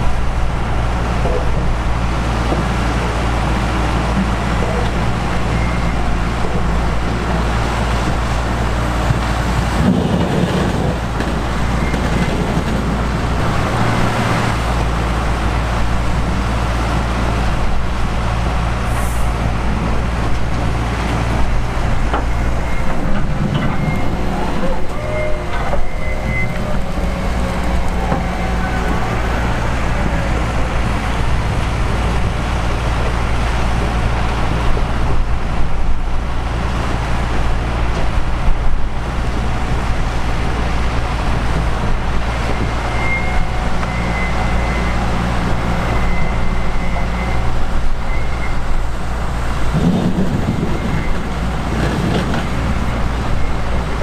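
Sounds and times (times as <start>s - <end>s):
diesel machinery rumbling: 0.0s - 54.0s.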